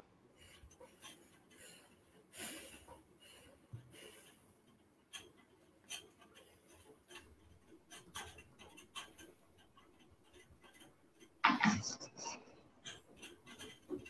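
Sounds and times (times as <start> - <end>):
faint irregular clicks and knocks: 0.0 - 14.0.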